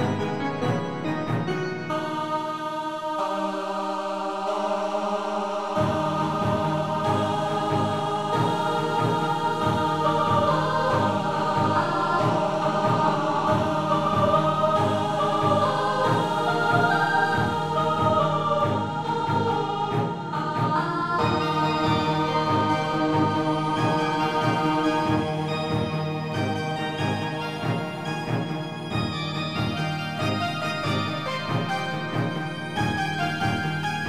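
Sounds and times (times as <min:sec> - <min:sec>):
choir-like synth chords: 0:00.0 - 0:34.0.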